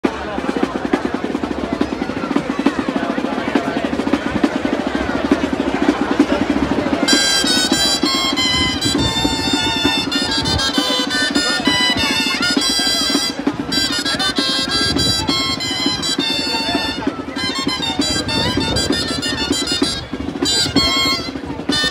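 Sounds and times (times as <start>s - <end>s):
crowd hubbub: 0.0s - 21.9s
drumming: 0.0s - 21.9s
shawms playing waltz tune: 0.3s - 21.9s.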